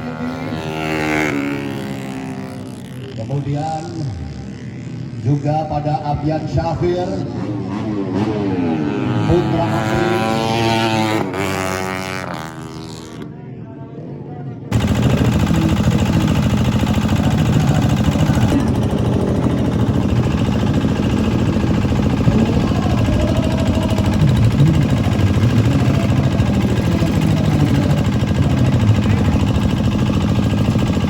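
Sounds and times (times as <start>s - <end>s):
motorcycle engines running: 0.0s - 13.3s, 14.7s - 31.0s.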